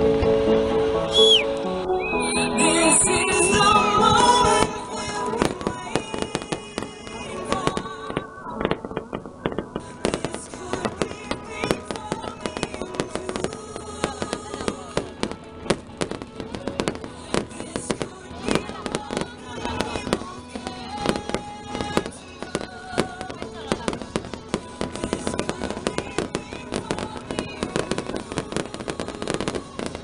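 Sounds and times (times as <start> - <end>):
music: 0.0 - 30.0
fireworks bangs and crackles: 2.8 - 30.0.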